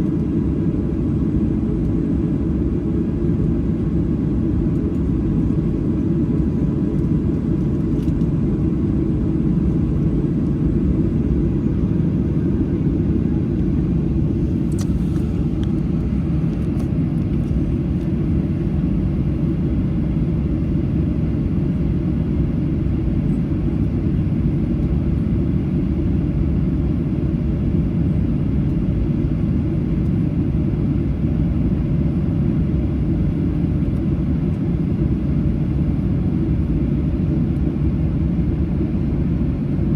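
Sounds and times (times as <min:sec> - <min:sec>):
aircraft cabin low rumble: 0:00.0 - 0:39.9.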